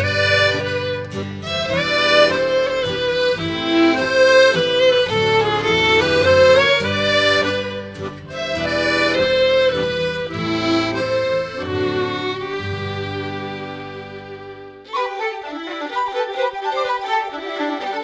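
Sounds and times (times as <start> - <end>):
accordion and fiddle folk music: 0.0 - 18.0.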